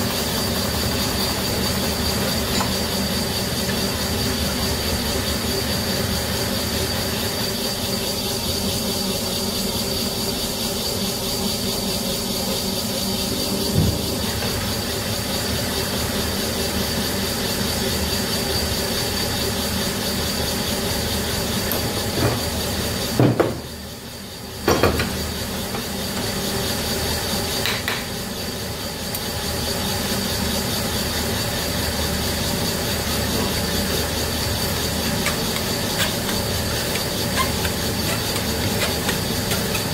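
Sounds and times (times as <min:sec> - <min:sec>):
bench lathe whining: 0:00.0 - 0:39.9.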